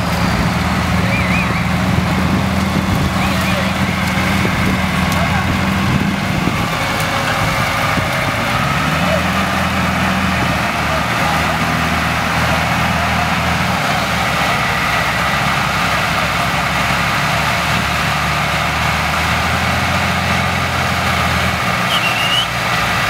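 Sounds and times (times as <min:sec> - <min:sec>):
heavy engines droning: 0:00.0 - 0:23.0.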